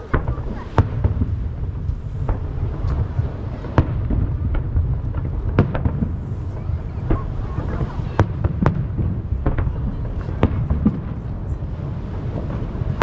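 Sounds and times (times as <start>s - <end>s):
fireworks bangs: 0.0s - 13.0s
low rumble of echoing booms: 0.0s - 13.0s.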